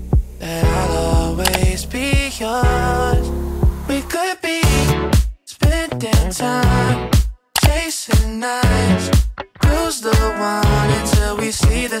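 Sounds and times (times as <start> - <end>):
pop song with sung vocal: 0.0 - 12.0.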